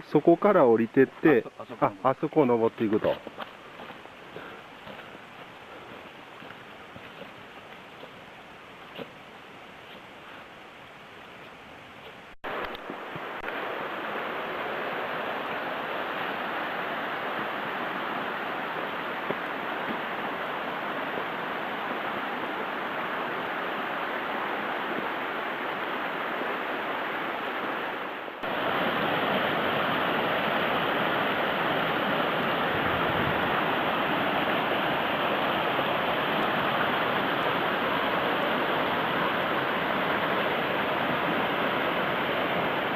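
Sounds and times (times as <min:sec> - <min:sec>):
mountain stream rushing: 0:00.0 - 0:42.9.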